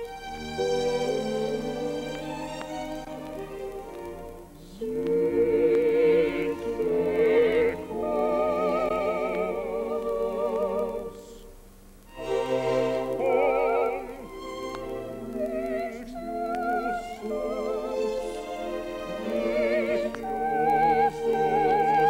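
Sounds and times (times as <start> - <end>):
soft musical accompaniment: 0.0 - 22.0
operatic voice singing: 0.6 - 2.6, 4.6 - 11.5, 12.2 - 22.0.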